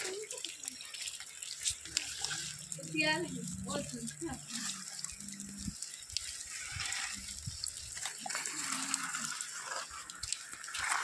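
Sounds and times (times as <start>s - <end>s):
water gushing and splashing: 0.0s - 11.0s.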